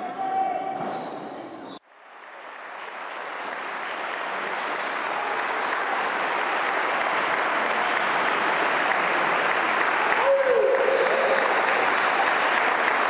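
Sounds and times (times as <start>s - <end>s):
crowd applauding: 1.8s - 13.0s.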